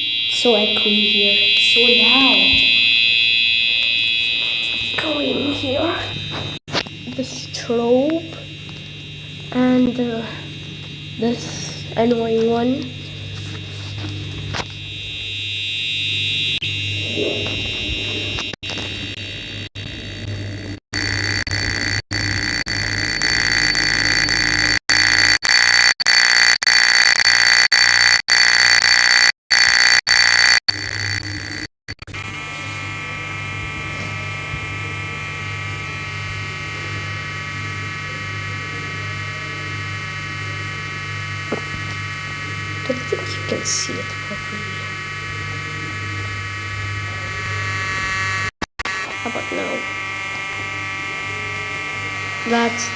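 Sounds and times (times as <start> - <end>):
fire alarm buzzing: 0.0 - 52.9.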